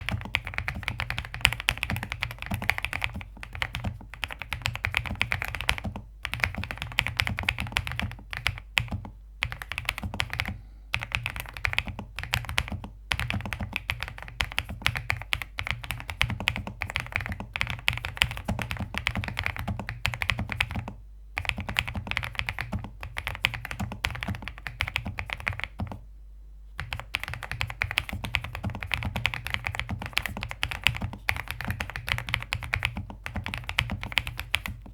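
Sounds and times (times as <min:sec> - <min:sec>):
typing on mechanical keyboard: 0:00.0 - 0:26.0, 0:26.8 - 0:34.9.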